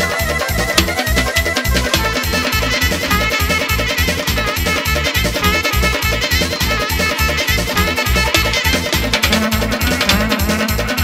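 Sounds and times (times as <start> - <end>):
clarinet melody: 0.0 - 11.0
keyboard accompaniment: 0.0 - 11.0
fast drum beat: 0.5 - 11.0.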